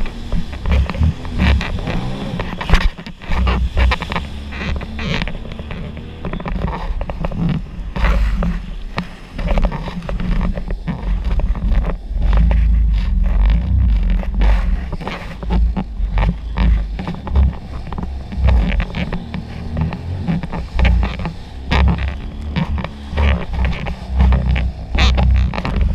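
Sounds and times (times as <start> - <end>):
hull slapping waves: 0.0 - 25.9
watercraft engine drone: 0.0 - 25.9.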